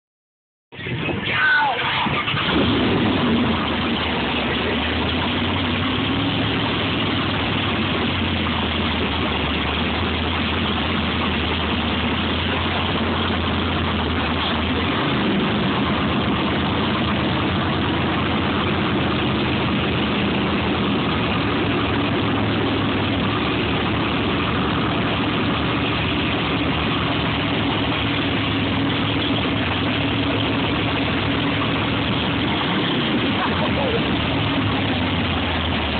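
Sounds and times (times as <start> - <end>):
engine humming steadily: 0.7 - 35.9.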